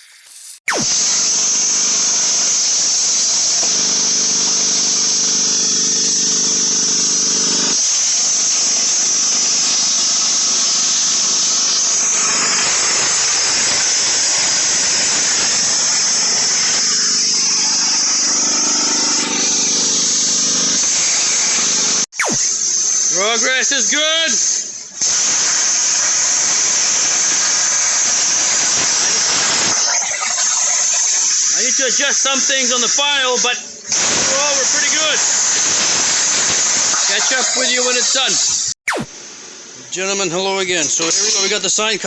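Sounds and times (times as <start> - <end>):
plasma cutter hissing: 0.0 - 42.0.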